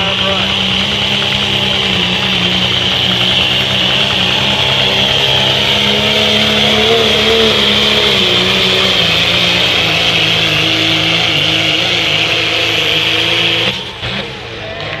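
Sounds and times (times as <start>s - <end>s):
diesel engine at full throttle: 0.0s - 15.0s.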